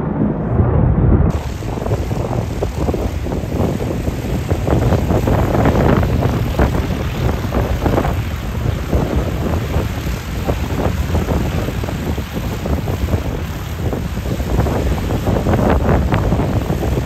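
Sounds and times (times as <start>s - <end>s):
wind buffeting microphone: 0.0s - 17.0s
light aircraft engine and propeller: 1.3s - 17.0s.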